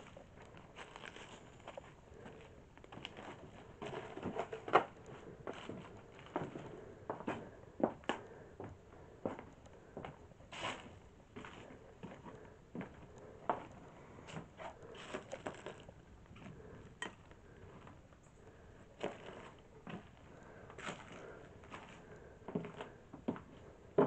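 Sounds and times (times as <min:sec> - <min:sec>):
footsteps crunching over debris: 0:00.0 - 0:18.0, 0:18.8 - 0:24.0.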